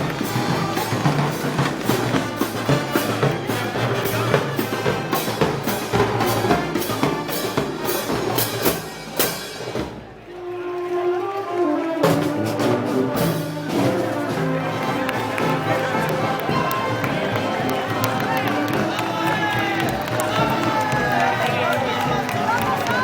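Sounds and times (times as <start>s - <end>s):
band music with heavy drums: 0.0s - 10.2s, 12.1s - 23.0s.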